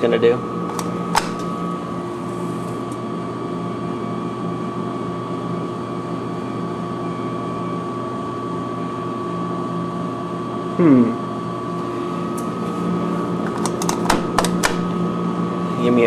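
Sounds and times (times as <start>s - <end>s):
vending machine humming: 0.0s - 16.0s.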